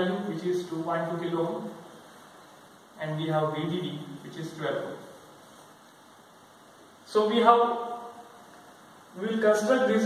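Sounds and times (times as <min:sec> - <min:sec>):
faint room tone hiss: 0:00.0 - 0:10.0.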